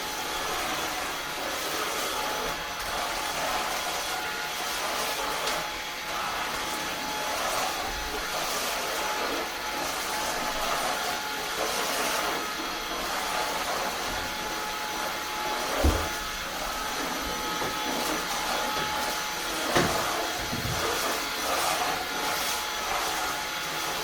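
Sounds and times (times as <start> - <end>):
stick vacuum running: 0.0 - 24.0.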